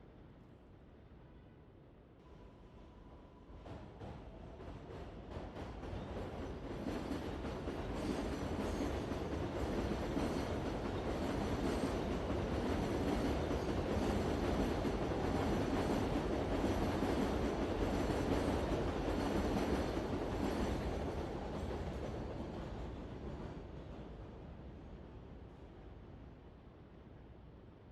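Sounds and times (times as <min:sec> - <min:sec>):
train rumbling on rails: 0:02.2 - 0:26.4.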